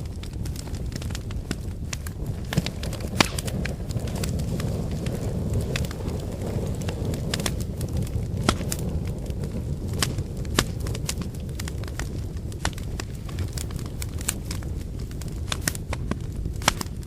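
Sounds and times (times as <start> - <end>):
firewood crackling and popping: 0.0 - 17.0
low rush of flames: 0.0 - 17.0.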